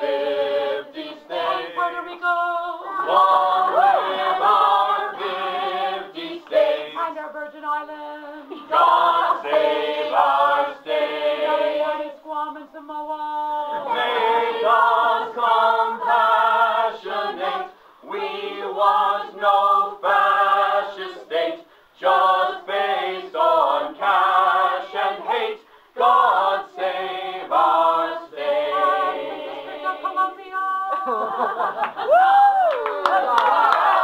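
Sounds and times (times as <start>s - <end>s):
group singing unaccompanied: 0.0s - 31.9s.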